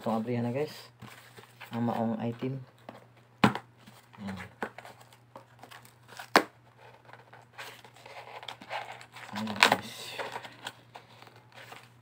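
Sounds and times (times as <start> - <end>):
cardboard rustling and scraping: 1.0 - 3.1, 3.8 - 12.0.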